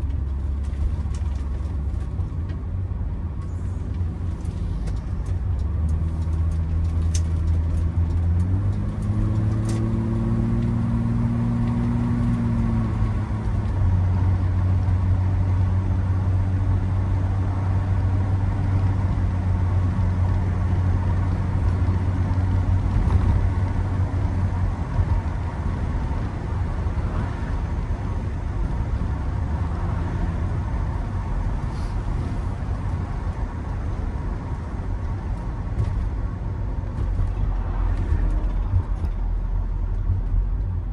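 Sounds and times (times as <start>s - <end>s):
car engine accelerating: 3.3s - 40.9s
tyre and wind noise: 4.0s - 40.9s.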